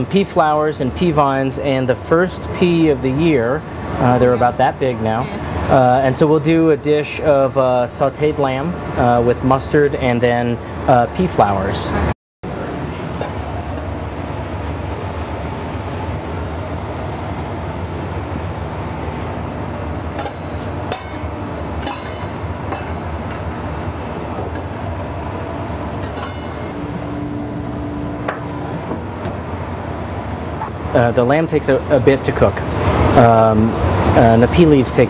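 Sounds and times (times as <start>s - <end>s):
kitchen ventilation rumble: 0.0s - 35.0s.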